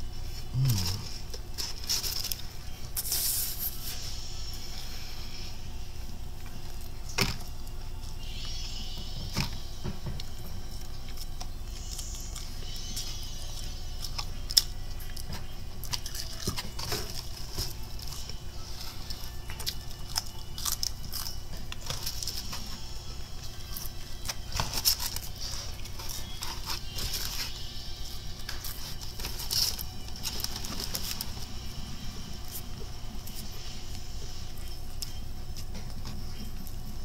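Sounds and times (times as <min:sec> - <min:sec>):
chewing crunchy food: 0:05.3 - 0:37.0.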